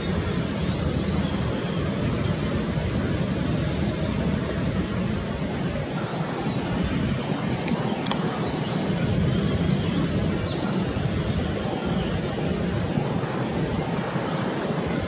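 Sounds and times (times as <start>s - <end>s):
jet engines at take-off thrust: 0.0s - 15.0s.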